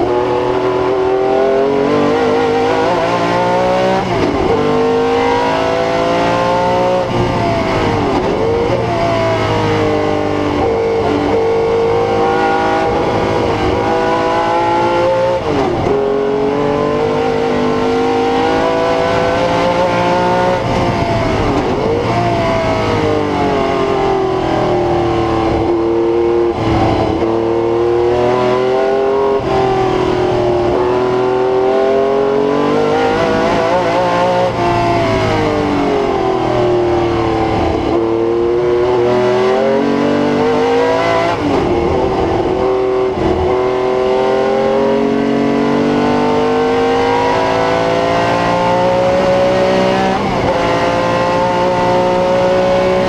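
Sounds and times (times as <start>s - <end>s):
racing engine accelerating: 0.0s - 53.0s.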